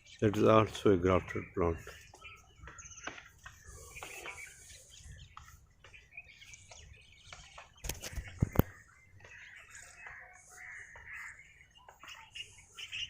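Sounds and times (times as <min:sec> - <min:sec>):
songbird chirps and calls: 0:00.0 - 0:13.0.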